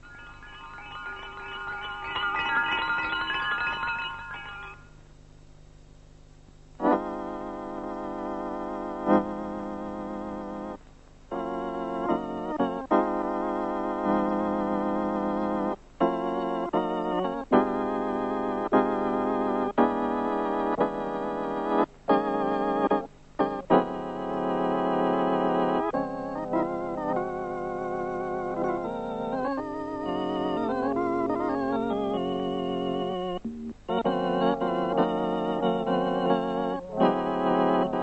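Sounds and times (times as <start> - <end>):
organ chords with vibrato: 0.0 - 5.0, 11.3 - 38.0.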